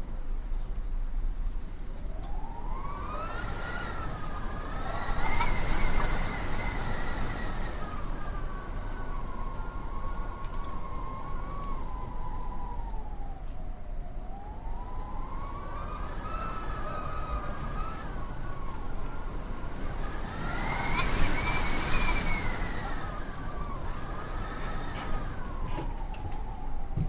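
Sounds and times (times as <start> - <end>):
wind howling: 1.8 - 27.0.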